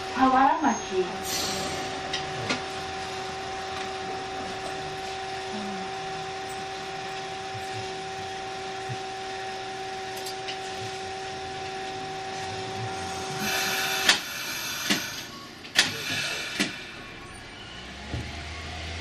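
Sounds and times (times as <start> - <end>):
two-note electrical hum: 0.0 - 15.3
tram running noise: 0.0 - 19.0.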